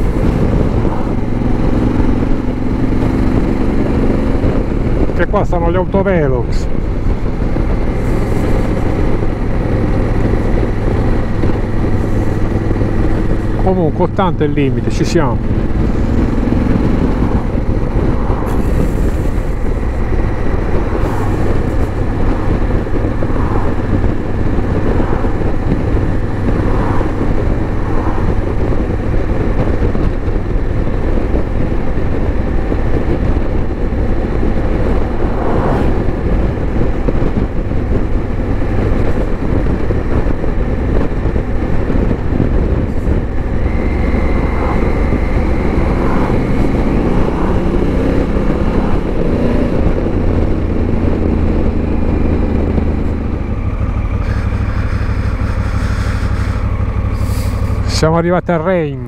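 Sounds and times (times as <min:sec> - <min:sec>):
wind rushing: 0:00.0 - 0:58.1
motorcycle engine drone: 0:00.0 - 0:59.0.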